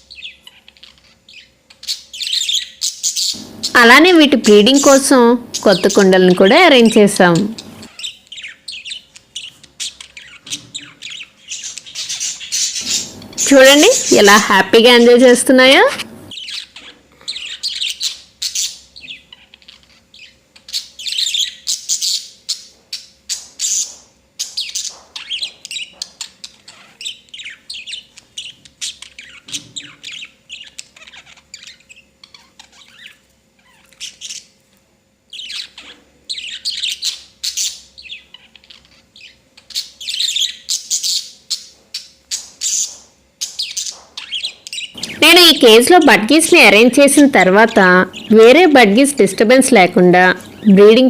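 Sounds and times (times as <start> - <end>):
budgerigars chirping and chattering: 0.0 - 34.6, 35.3 - 51.0
faint steady hum: 0.0 - 51.0.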